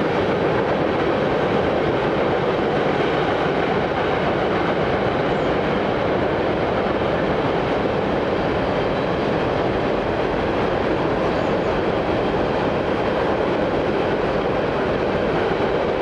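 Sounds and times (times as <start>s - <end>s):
train wheels on track: 0.0s - 16.0s.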